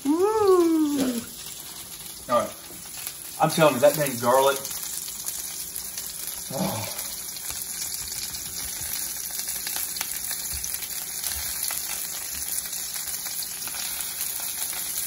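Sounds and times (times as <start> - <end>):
onions sizzling in oil: 0.0 - 15.0
small crackles: 0.0 - 15.0.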